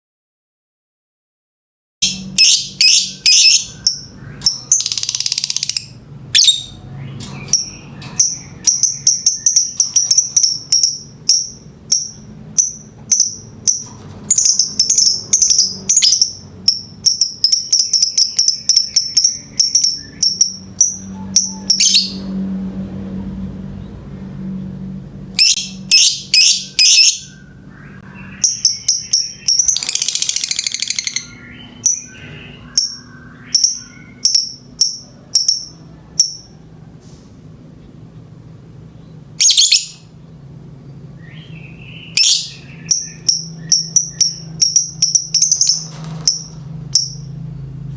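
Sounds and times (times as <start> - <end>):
lovebird chirping and trilling: 2.0 - 22.4, 25.4 - 36.5, 39.4 - 40.1, 41.2 - 47.4.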